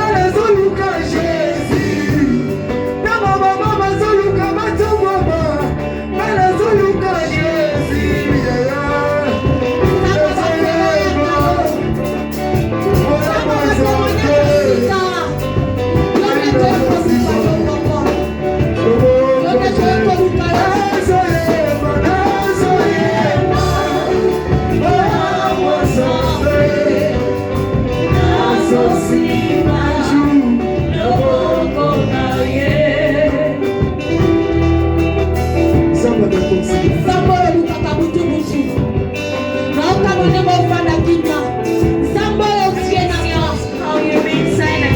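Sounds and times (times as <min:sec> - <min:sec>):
band with steady beat: 0:00.0 - 0:44.9
voices singing gospel song: 0:00.0 - 0:44.9.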